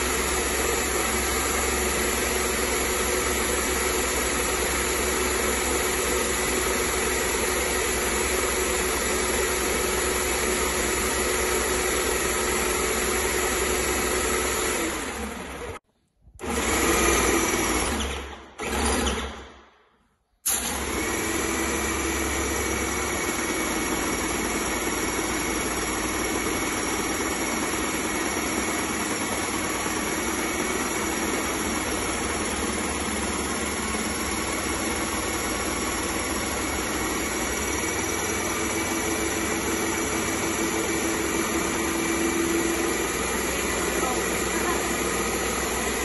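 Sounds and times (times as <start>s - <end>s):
paint sprayer pump running: 0.0s - 15.8s, 16.4s - 19.5s, 20.5s - 46.0s.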